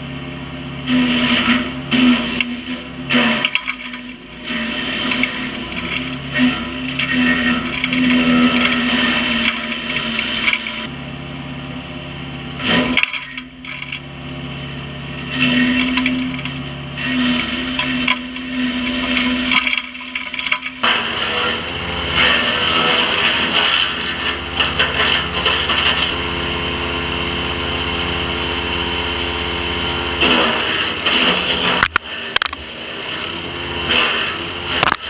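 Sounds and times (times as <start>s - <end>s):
wood chipper engine: 0.0s - 35.0s
wood crackling and splintering: 0.9s - 10.9s, 12.6s - 26.7s, 30.2s - 35.0s.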